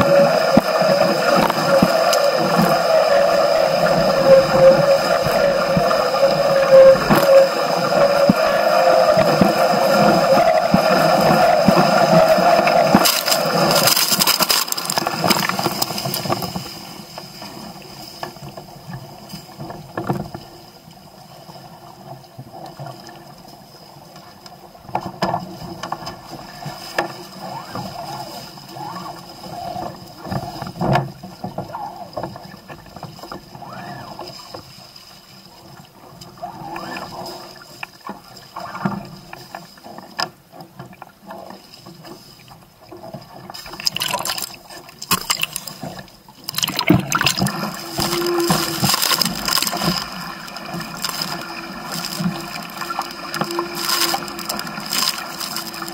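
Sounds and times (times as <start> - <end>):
water rushing along hull: 0.0 - 55.9.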